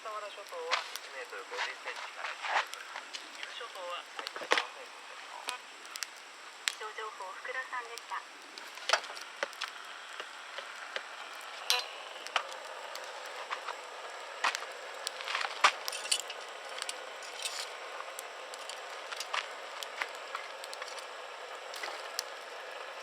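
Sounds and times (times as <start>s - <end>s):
campfire crackling and popping: 0.0s - 23.0s
fire hiss: 0.0s - 23.0s.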